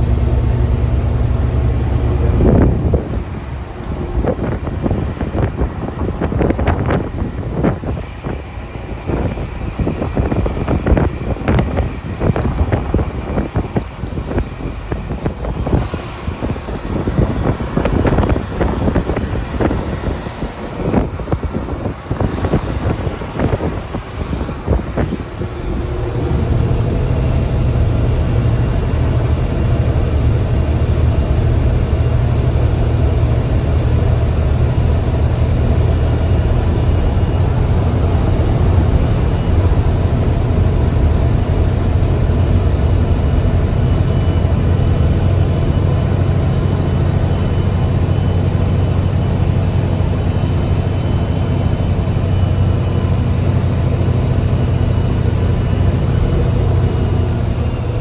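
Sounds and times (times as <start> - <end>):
bus engine thumping and droning: 0.0 - 58.0.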